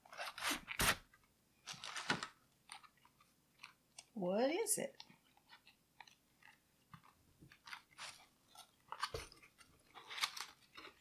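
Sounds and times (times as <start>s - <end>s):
packaging rustling and scraping: 0.0s - 3.8s, 5.2s - 11.0s.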